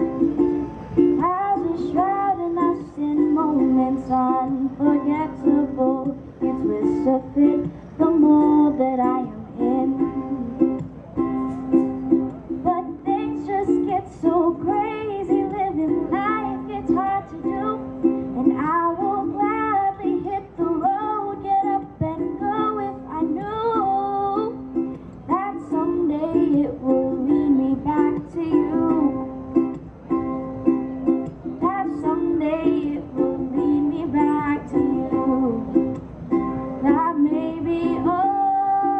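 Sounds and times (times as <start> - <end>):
ukulele strumming: 0.0 - 38.9
woman singing: 1.2 - 10.8, 12.5 - 29.4, 31.5 - 36.0, 36.8 - 38.9.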